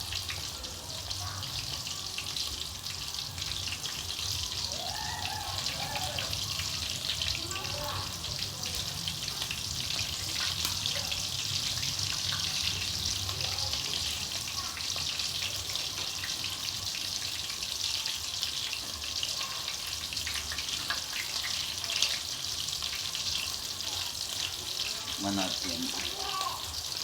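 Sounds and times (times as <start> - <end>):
gravy sizzling in a pan: 0.0 - 27.0.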